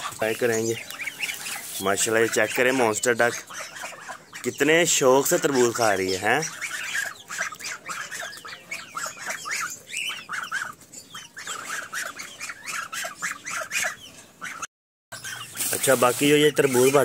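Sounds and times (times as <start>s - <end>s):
chickens squawking: 0.0s - 17.0s
ducks quacking: 0.0s - 17.0s.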